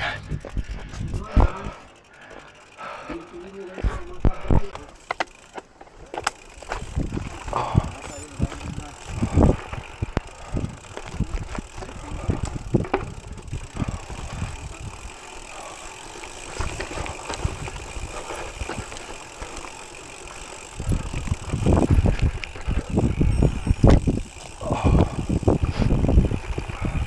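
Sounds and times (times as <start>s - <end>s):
bike rattling and knocking: 0.0s - 27.0s
tyres crunching on loose stones: 4.8s - 27.0s.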